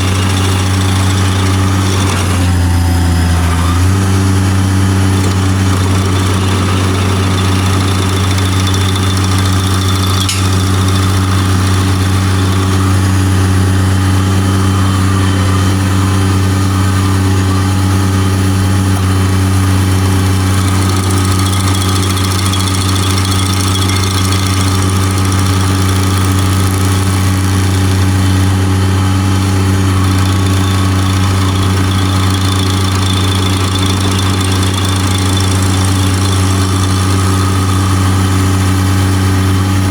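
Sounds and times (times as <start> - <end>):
high whine of stump grinder: 0.0 - 39.9
skid steer engine running: 0.0 - 39.9.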